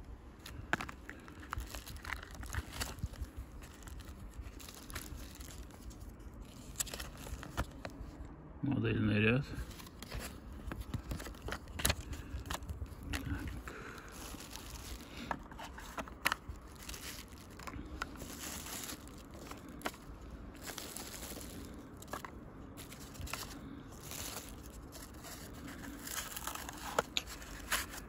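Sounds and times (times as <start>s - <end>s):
plastic bag and bubble wrap crinkling: 0.4s - 8.1s, 9.6s - 28.0s.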